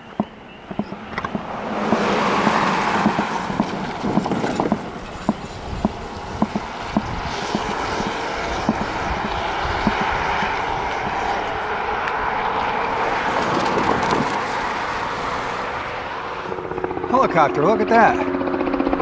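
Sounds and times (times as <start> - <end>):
helicopter flying over: 0.0 - 19.0.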